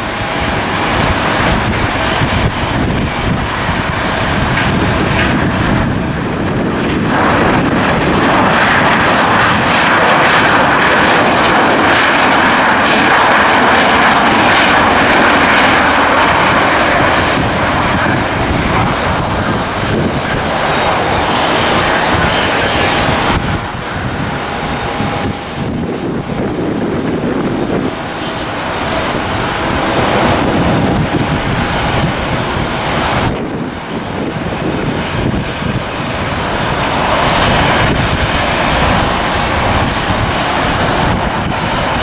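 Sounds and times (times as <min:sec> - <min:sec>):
airliner engines rushing: 0:00.0 - 0:42.0.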